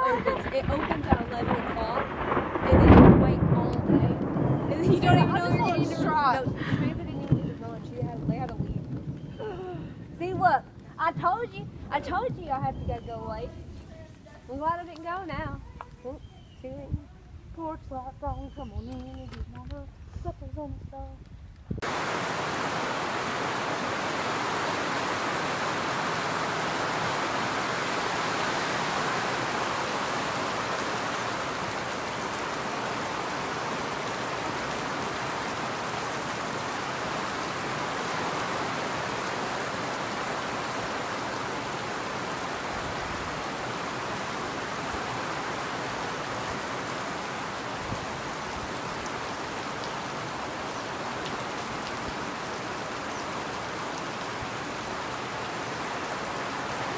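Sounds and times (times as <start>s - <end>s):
torrential rain pouring: 0.0s - 56.9s.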